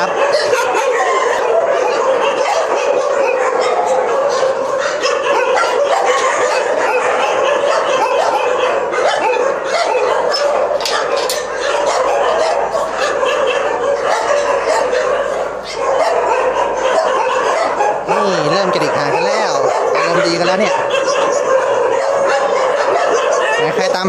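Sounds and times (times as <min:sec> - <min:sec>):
dogs barking and yipping: 0:00.0 - 0:24.0.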